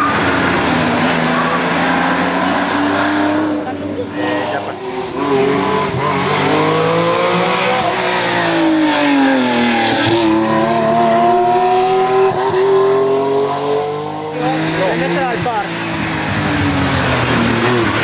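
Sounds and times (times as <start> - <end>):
rally car engine racing: 0.0 - 18.0.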